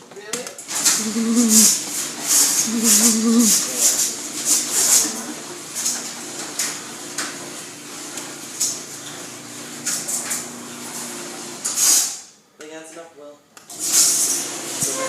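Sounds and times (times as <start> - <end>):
garage door opener hum: 0.7 - 12.0, 13.8 - 15.0.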